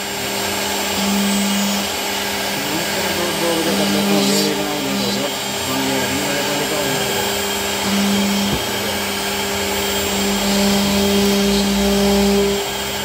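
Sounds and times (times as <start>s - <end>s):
router spindle hum: 0.0s - 13.0s
hiss of cutting: 0.9s - 12.6s.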